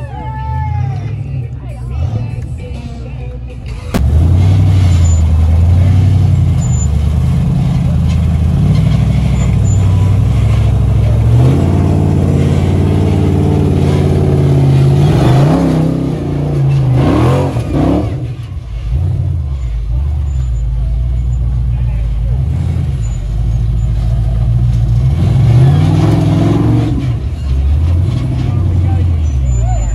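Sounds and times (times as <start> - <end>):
buggy engine revving: 0.0 - 29.9.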